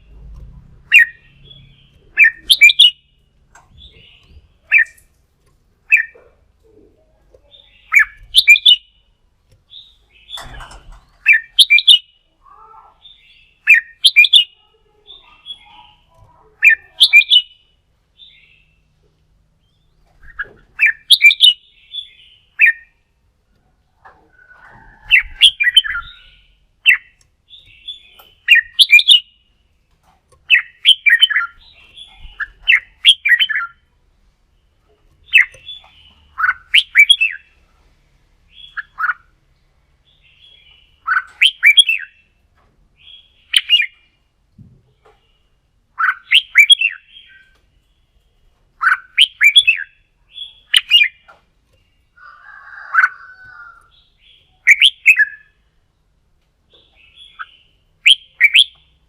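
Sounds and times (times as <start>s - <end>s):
bird singing warbled phrases: 0.8s - 5.2s, 5.8s - 37.7s, 38.4s - 59.0s.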